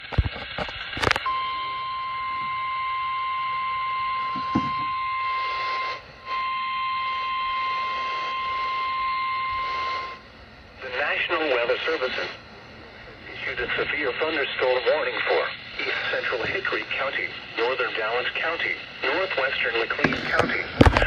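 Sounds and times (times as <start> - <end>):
radio hiss: 0.0 - 1.8, 4.2 - 21.0.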